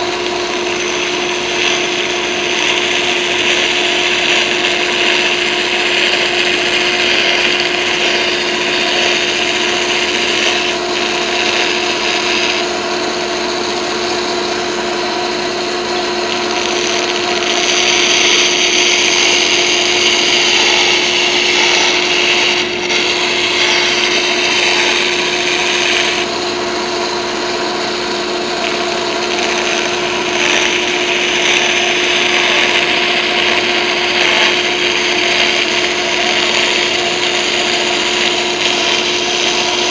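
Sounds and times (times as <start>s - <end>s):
band saw cutting wood: 0.0s - 39.9s
saw motor hum: 0.0s - 39.9s.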